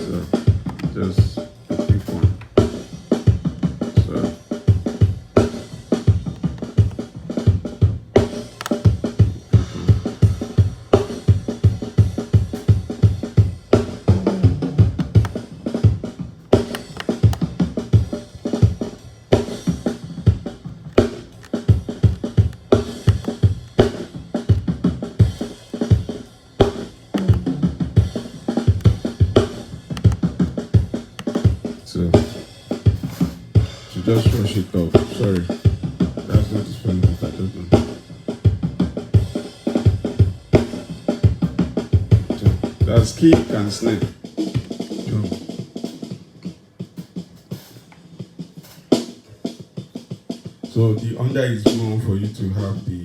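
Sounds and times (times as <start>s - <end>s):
snare drum strokes: 0.0s - 53.0s.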